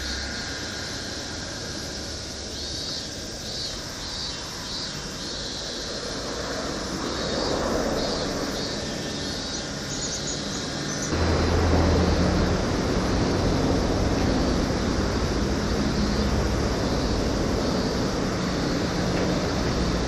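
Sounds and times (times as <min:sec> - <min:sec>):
motor traffic rumble: 0:00.0 - 0:20.0
steady engine hum: 0:00.0 - 0:20.0.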